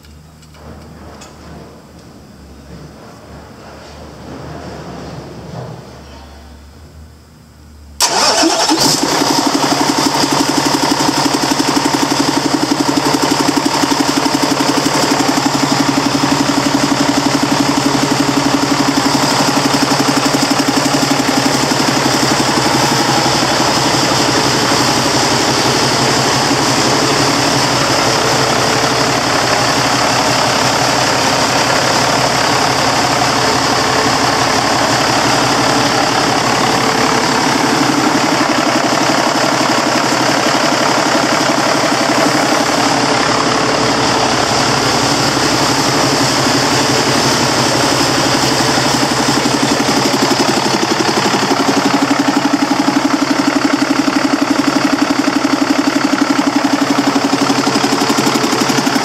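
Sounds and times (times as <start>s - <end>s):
diesel engine starting and idling: 8.0s - 59.0s.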